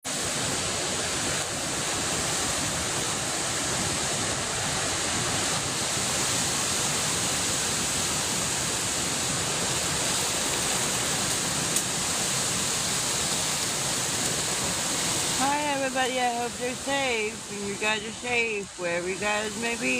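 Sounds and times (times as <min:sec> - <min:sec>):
heavy rain and wind: 0:00.0 - 0:19.9.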